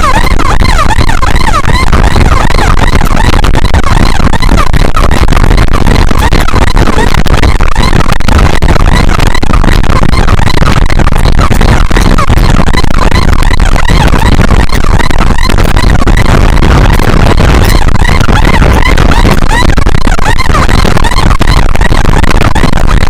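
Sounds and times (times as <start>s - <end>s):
music: 0.0s - 23.0s
wind rumble: 0.0s - 23.0s.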